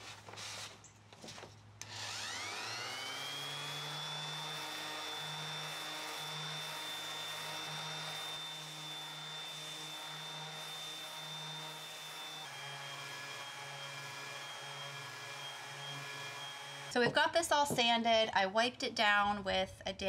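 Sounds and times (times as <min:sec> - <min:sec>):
orbital sander sanding wood: 0:01.8 - 0:17.9.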